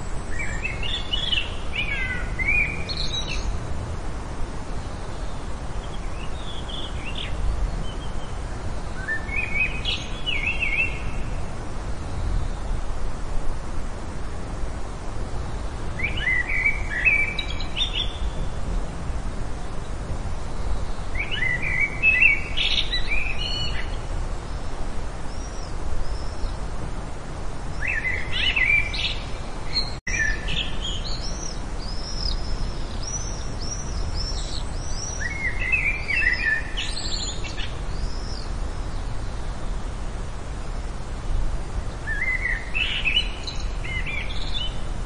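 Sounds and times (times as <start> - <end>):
songbird singing: 0.0 - 13.4, 14.2 - 45.0.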